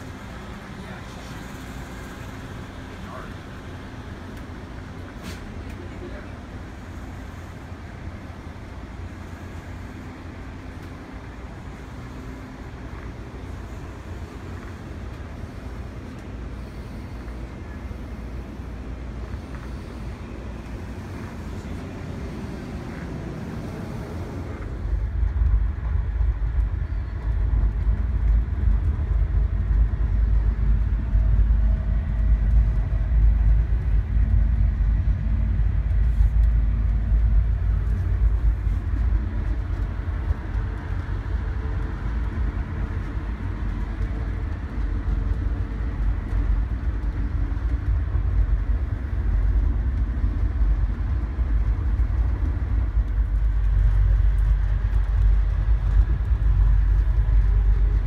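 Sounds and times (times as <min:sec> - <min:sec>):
train low rumble: 0:00.0 - 0:58.0.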